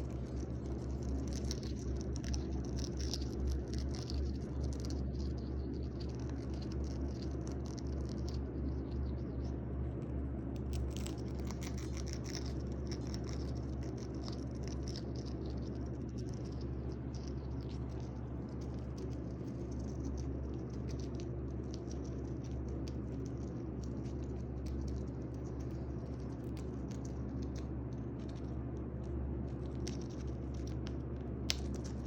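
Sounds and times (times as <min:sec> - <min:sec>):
parrot crunching with beak: 0:00.0 - 0:09.5, 0:10.5 - 0:32.0
low hum: 0:00.0 - 0:32.0.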